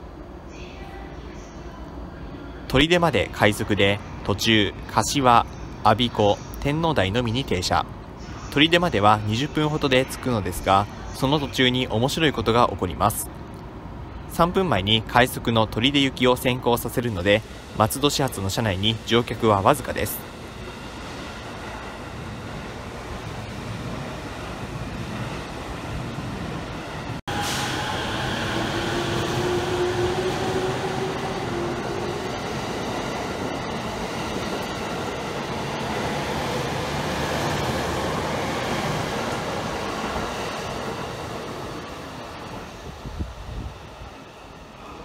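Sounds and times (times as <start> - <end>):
station platform noise: 0.0 - 45.0.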